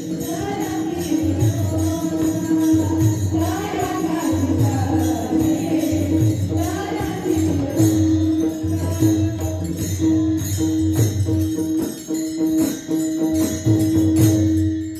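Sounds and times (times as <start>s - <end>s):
hand cymbals clashing: 0.0s - 14.9s.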